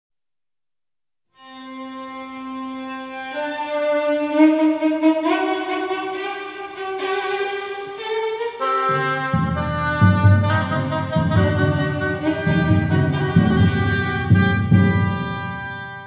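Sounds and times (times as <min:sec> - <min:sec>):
bowed string instrument music: 0:01.4 - 0:16.0.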